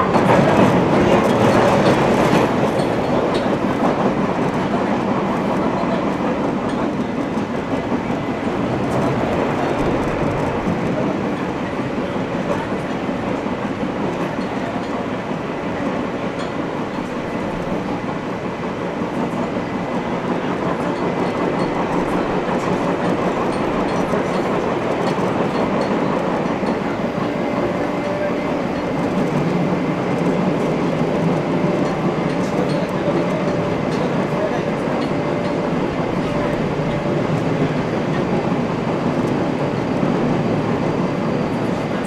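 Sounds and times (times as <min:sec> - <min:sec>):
steel wheels rumbling on rail: 0:00.0 - 0:42.0.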